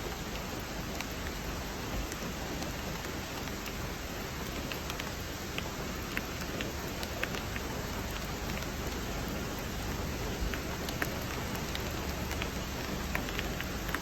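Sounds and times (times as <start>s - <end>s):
raindrops ticking on a surface: 0.0s - 14.0s
steady rain falling: 0.0s - 14.0s.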